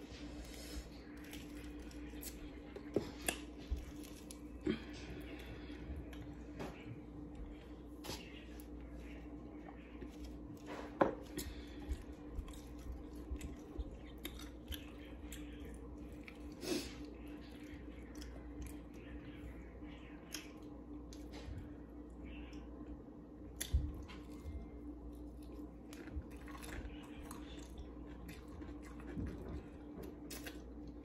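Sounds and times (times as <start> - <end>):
person chewing fried chicken: 0.0 - 19.6, 23.4 - 31.0
low hum: 0.0 - 31.0.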